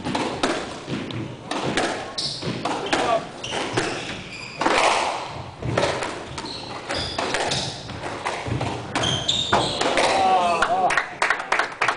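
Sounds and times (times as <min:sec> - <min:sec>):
squash ball hitting rackets and walls: 0:00.0 - 0:10.5
shoes squeaking on wooden floor: 0:00.0 - 0:10.6.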